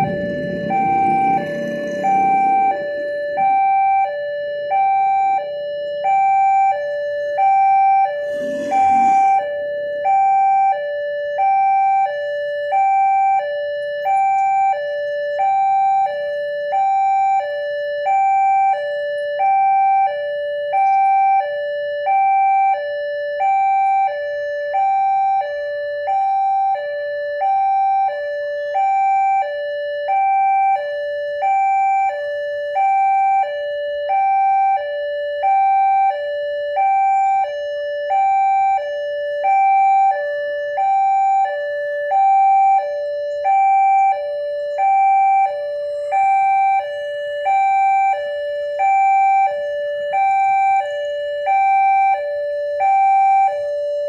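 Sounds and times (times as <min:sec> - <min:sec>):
two-tone crossing alarm: 0:00.0 - 0:54.0.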